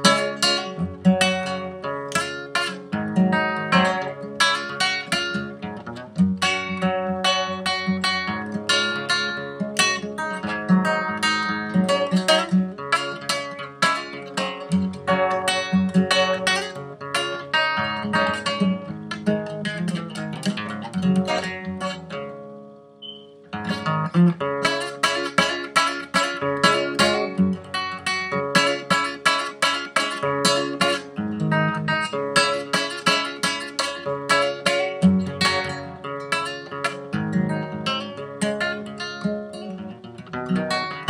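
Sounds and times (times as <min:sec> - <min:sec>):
classical guitar playing: 0:00.0 - 0:41.0.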